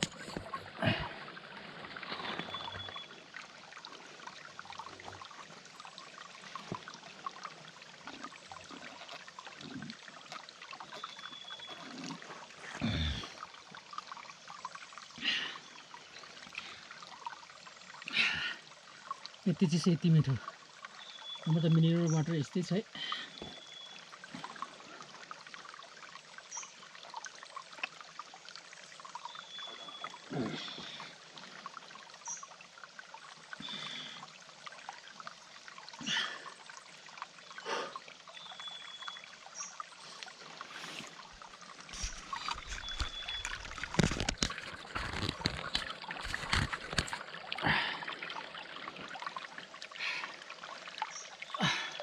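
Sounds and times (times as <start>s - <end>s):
stream water trickling: 0.0s - 52.0s.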